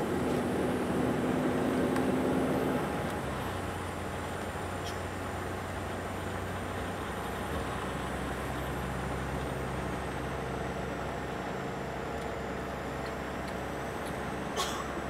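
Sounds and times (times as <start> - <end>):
vehicle road noise: 0.0 - 15.0.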